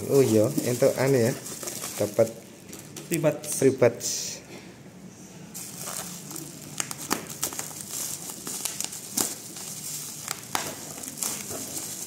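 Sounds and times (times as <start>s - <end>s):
bubble wrap crinkling: 0.0s - 3.4s, 5.6s - 12.0s.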